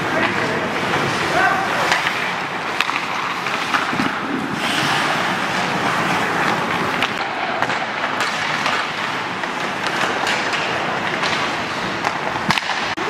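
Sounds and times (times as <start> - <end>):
hockey sticks and puck clicking: 0.0 - 13.0
skates scraping on ice: 0.0 - 13.0.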